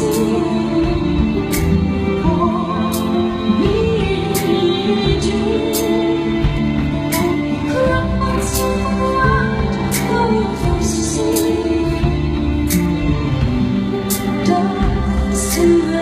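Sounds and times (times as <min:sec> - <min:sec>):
woman singing slow ballad: 0:00.0 - 0:13.1, 0:14.2 - 0:16.0
instrumental accompaniment: 0:00.0 - 0:16.0.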